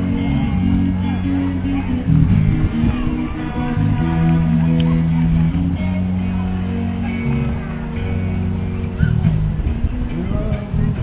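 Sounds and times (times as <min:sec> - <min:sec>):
guitar and bass music: 0:00.0 - 0:11.0.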